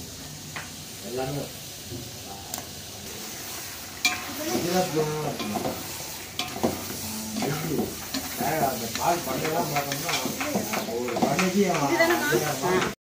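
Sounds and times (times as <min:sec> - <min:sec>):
chicken sizzling in pot: 0:00.0 - 0:13.0.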